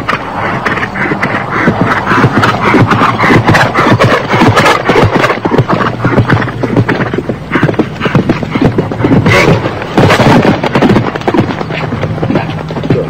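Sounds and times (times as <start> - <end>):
horse galloping hoofbeats: 0.0 - 13.0.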